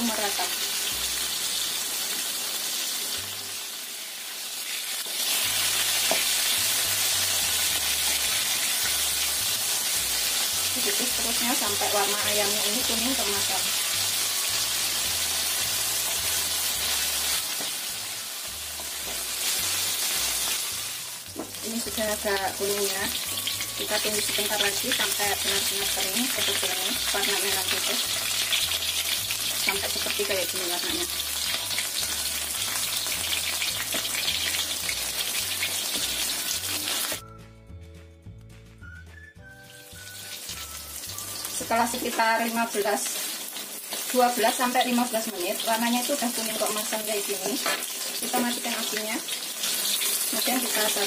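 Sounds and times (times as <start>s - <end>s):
chicken sizzling in oil: 0.0s - 37.2s, 39.6s - 51.0s
soft background music: 0.0s - 51.0s.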